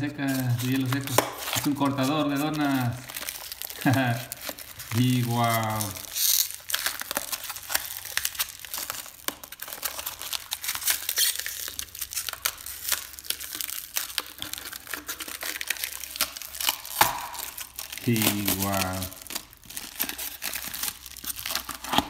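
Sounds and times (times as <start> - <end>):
foam wrap rubbing and crunching: 0.0 - 22.0
plastic packaging crinkling: 0.0 - 22.0.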